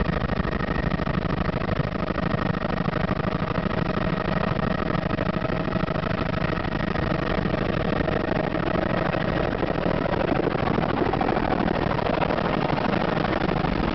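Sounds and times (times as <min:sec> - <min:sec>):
helicopter rotor beating: 0:00.0 - 0:13.9.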